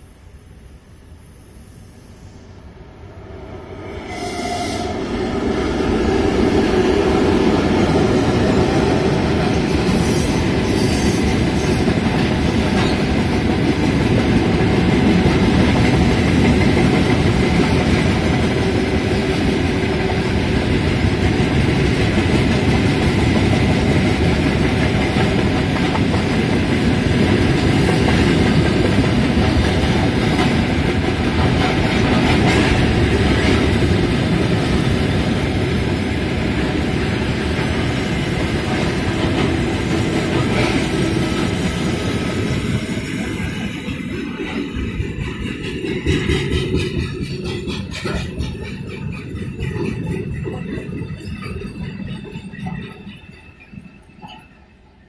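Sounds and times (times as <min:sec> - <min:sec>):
freight train rumbling past: 0:00.0 - 0:55.0
diesel locomotive passing: 0:01.2 - 0:55.0.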